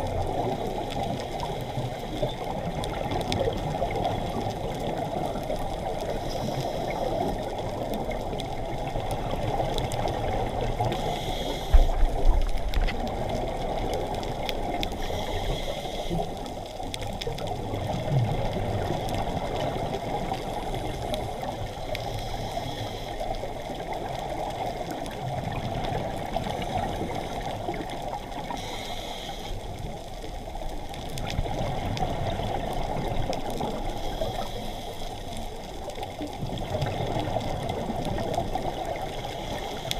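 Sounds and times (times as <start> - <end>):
faint clicks: 0.0 - 39.9
muffled underwater rush: 0.0 - 39.9
soft hiss: 0.1 - 39.9.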